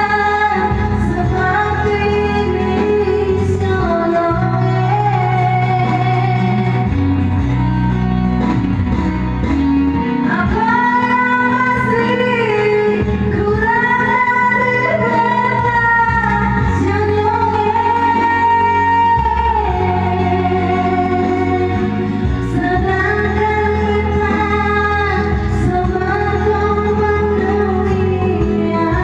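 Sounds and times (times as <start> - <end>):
woman singing: 0.0 - 7.3, 10.2 - 29.0
guitar and bass: 0.0 - 29.0.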